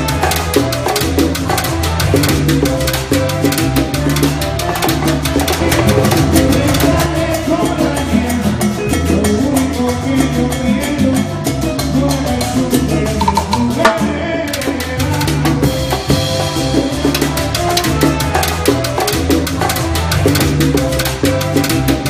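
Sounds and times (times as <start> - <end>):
bass line: 0.0 - 22.0
busy percussion: 0.0 - 22.0.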